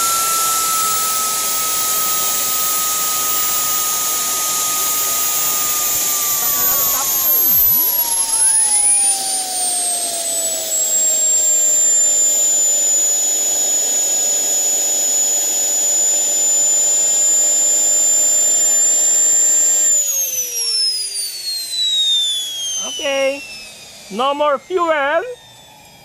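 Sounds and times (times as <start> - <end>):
gas turbine roar: 0.0 - 26.0
turbine high whine: 0.0 - 26.0.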